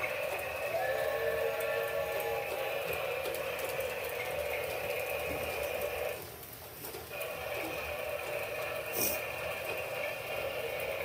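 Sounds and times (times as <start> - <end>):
toy train motor whirring: 0.0 - 6.3, 7.1 - 11.0.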